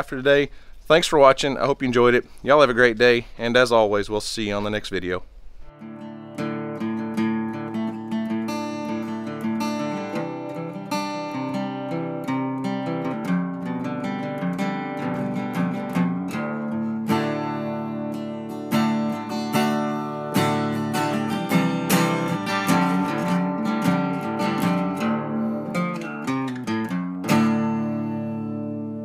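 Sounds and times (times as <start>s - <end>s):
acoustic guitar music: 5.6s - 29.0s.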